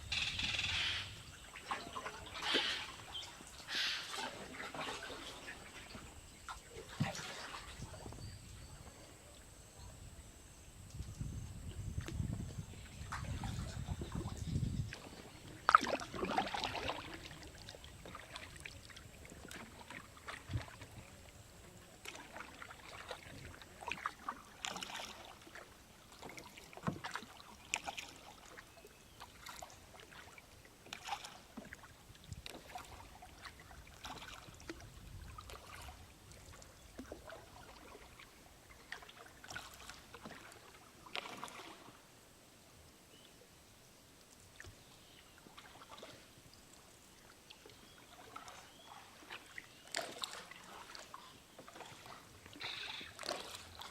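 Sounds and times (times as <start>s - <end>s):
kayak paddles splashing water: 0.1s - 9.5s, 11.9s - 42.1s, 44.2s - 53.9s.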